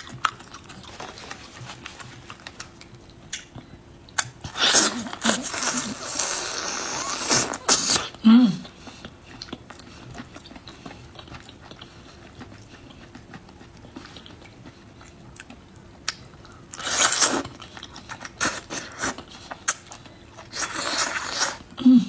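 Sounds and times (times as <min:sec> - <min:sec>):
chewing and biting: 0:00.0 - 0:08.1, 0:08.8 - 0:21.6.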